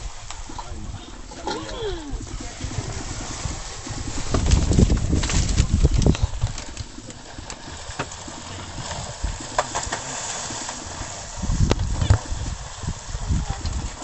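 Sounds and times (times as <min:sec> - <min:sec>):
handheld camera rumble: 0:00.0 - 0:14.0
water splashing: 0:00.0 - 0:14.0.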